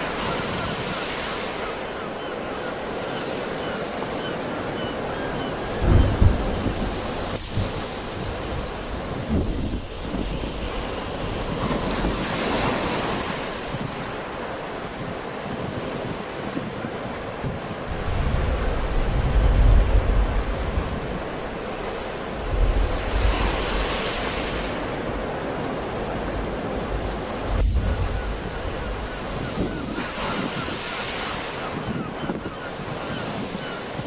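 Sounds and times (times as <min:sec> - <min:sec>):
sea waves breaking: 0:00.0 - 0:34.0
wind buffeting microphone: 0:04.5 - 0:34.0.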